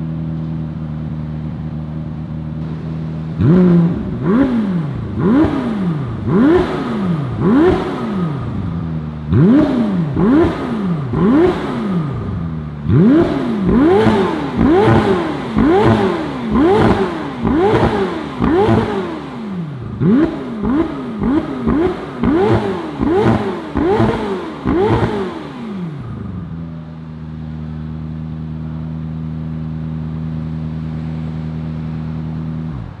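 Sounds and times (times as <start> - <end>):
car engine idling: 0.0 - 33.0
car engine revving with cracks: 0.0 - 33.0.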